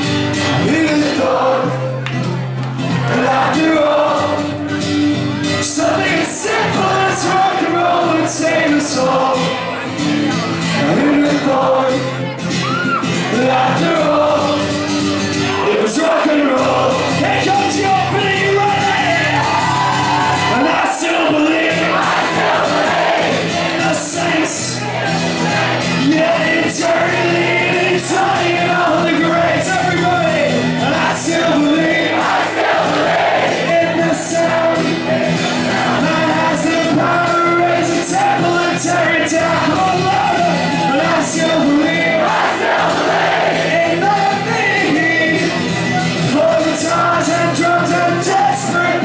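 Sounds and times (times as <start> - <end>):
acoustic guitar: 0.0 - 49.0
audience singing and shouting: 0.0 - 49.0
person singing: 5.5 - 32.4, 33.5 - 49.0.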